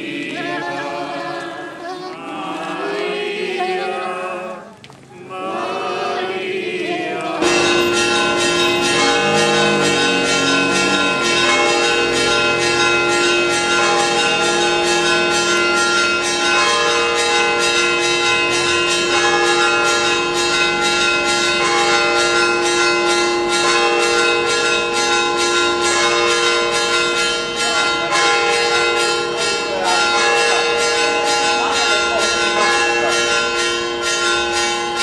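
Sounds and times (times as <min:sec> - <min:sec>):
church bells pealing: 0:00.0 - 0:04.3, 0:05.2 - 0:35.0.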